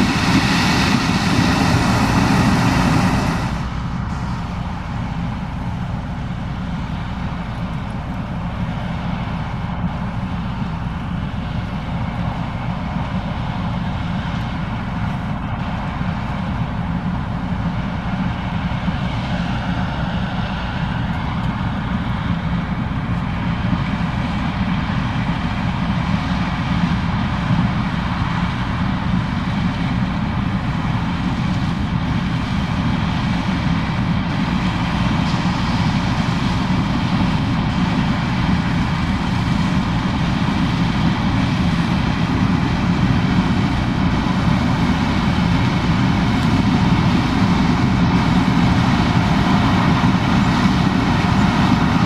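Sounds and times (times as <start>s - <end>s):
combine harvester engine drone: 0.0s - 52.0s.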